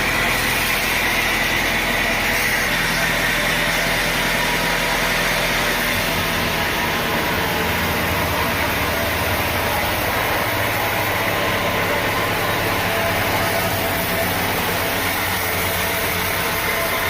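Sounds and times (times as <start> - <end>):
sawmill machinery hum: 0.0 - 17.0.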